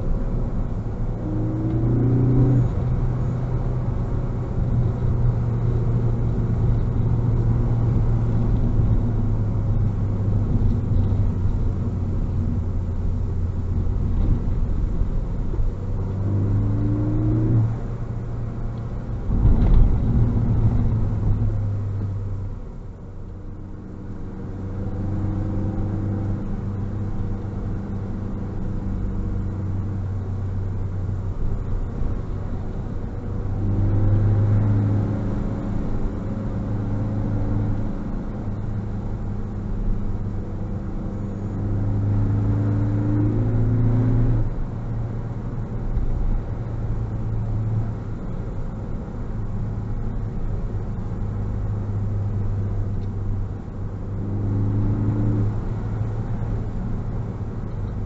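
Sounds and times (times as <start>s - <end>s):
car engine hum from cabin: 0.0s - 58.0s
tyre and road rumble: 0.0s - 58.0s.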